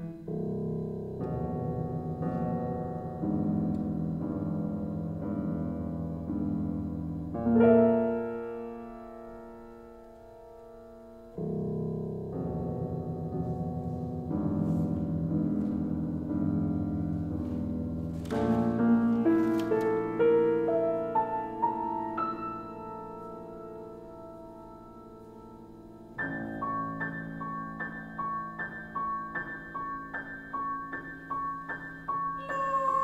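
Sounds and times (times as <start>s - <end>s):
solo piano: 0.0s - 33.0s.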